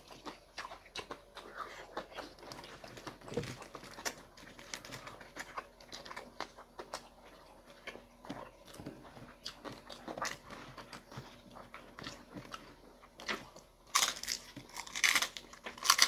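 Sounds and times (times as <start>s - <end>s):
chewing and mouth smacking: 0.0s - 16.0s.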